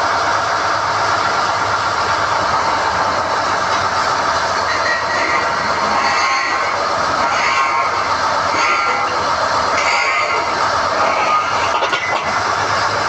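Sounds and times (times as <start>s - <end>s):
drilling rig running: 0.0s - 13.0s.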